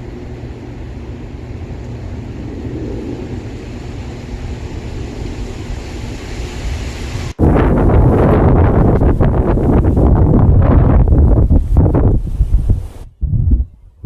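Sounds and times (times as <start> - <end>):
wind buffeting microphone: 0.0 - 14.0
wind gusting through trees: 0.0 - 14.0.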